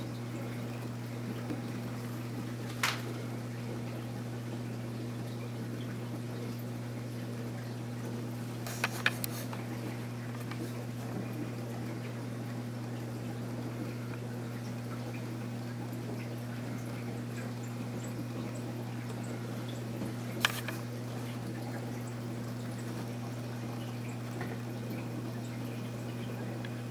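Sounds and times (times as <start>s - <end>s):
electric pump hum: 0.0s - 26.9s
water trickling and dripping: 0.0s - 26.9s.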